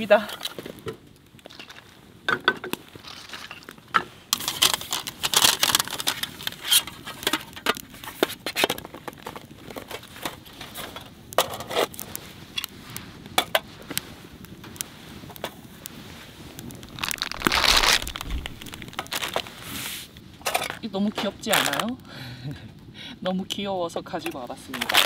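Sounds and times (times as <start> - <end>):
camp gear handled on gravel: 0.0 - 21.9, 24.7 - 25.0.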